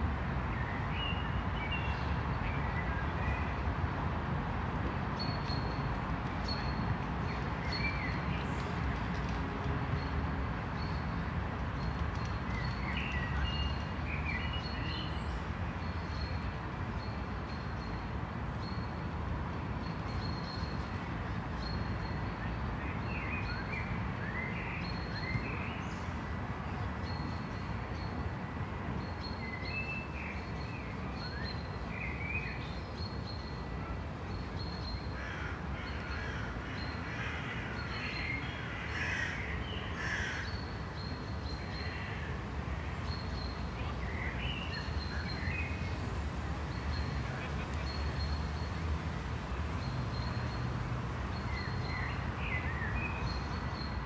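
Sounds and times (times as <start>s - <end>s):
distant traffic hum: 0.0s - 54.0s.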